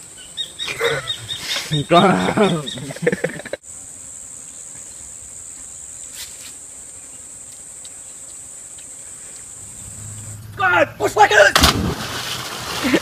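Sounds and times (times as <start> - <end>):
high-pitched insect chorus: 0.0 - 12.2.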